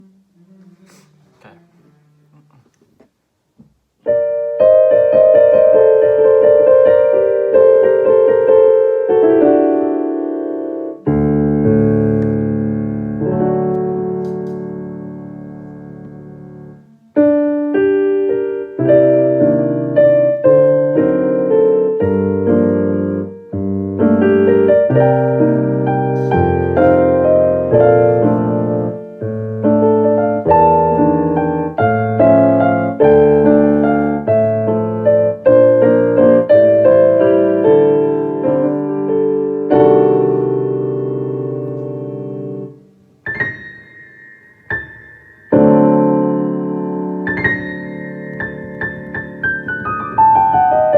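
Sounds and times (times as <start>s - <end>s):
solo piano: 3.4s - 50.9s.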